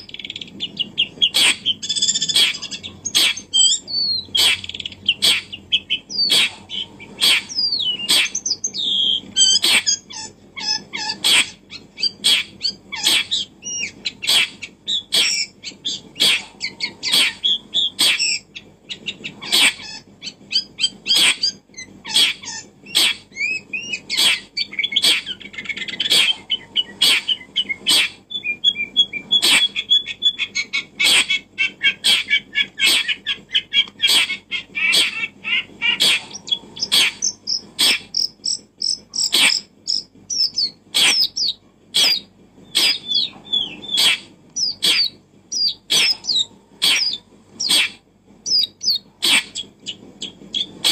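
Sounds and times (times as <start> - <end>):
birds chirping and twittering: 0.0 - 50.9.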